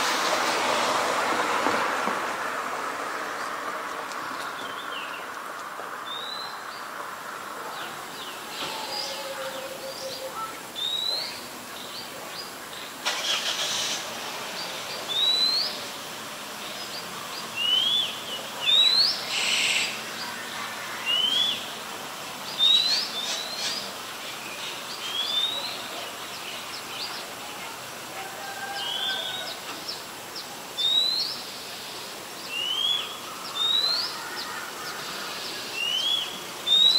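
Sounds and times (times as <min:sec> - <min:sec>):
small birds chirping: 0:03.4 - 0:13.0, 0:14.4 - 0:27.9, 0:28.8 - 0:36.9.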